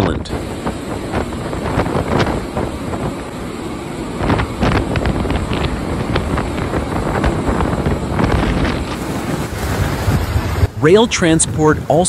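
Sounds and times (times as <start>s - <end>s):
waves breaking over wall: 0.0s - 12.0s
wind buffeting microphone: 0.0s - 12.0s.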